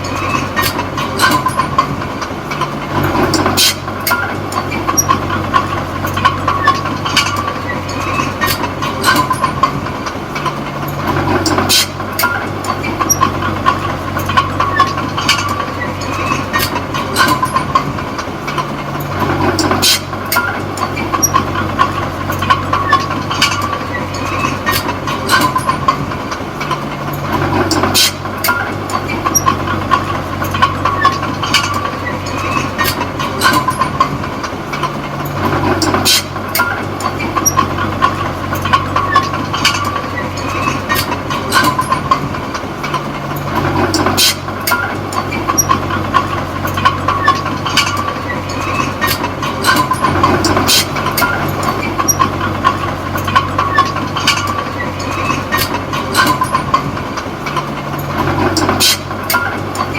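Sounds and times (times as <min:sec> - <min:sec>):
bulldozer diesel engine under load: 0:00.0 - 0:59.9
metallic clanks: 0:00.0 - 0:59.9
steel tracks squealing: 0:00.0 - 0:59.9.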